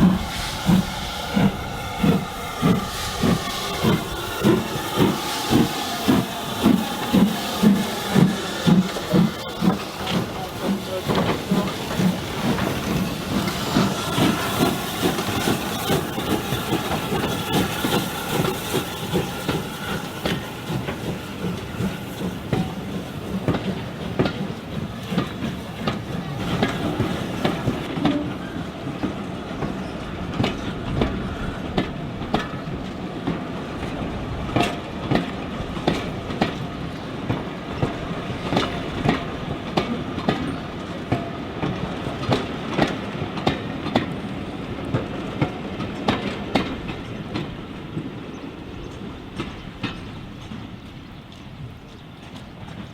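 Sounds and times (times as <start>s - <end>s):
train rumbling: 0.0s - 52.9s
train wheels clacking over rail joints: 0.0s - 52.9s.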